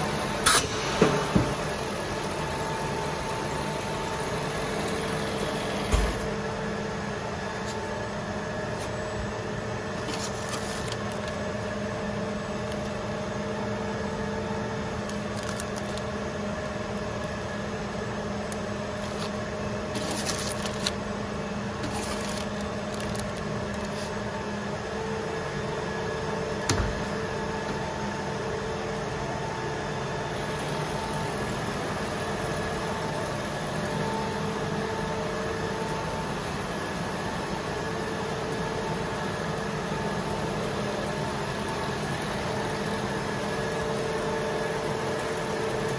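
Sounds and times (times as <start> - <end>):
machinery humming: 0.0 - 45.9.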